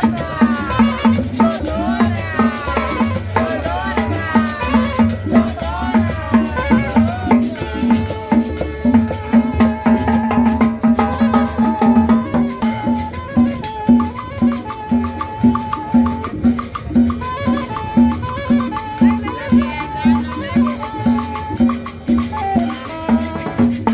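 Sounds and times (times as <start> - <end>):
upbeat latin dance music: 0.0 - 23.9.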